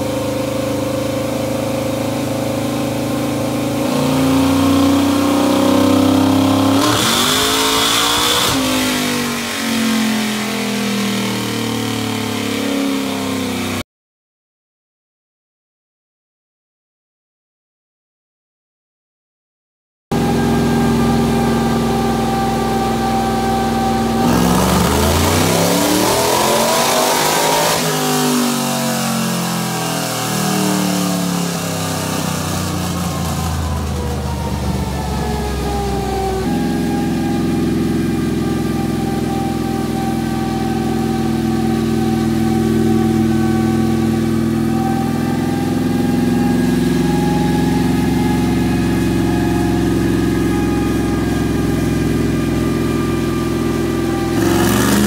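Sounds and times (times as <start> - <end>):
race car engine revving: 0.0 - 13.8, 20.2 - 55.0.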